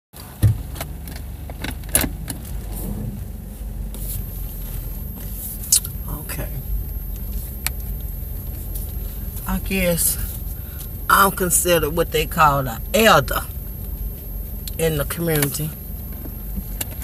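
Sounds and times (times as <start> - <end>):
low rumble inside car: 0.2 - 17.0.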